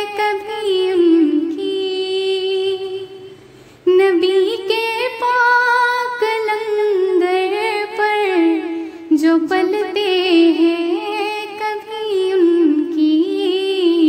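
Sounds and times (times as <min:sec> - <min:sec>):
woman singing devotional song: 0:00.0 - 0:14.0.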